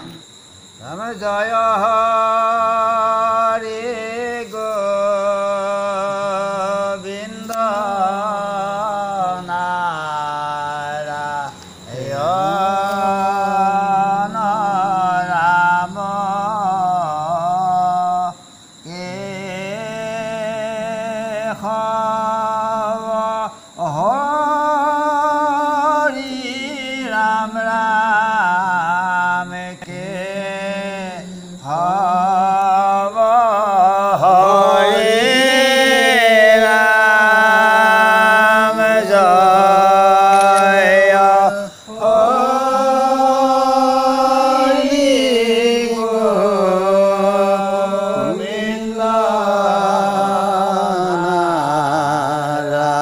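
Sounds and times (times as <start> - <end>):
man chanting: 0.0 - 53.0.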